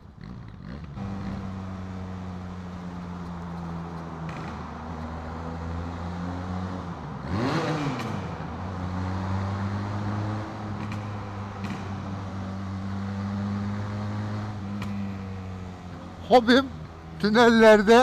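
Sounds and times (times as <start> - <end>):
motorcycle engine running: 0.0 - 17.6.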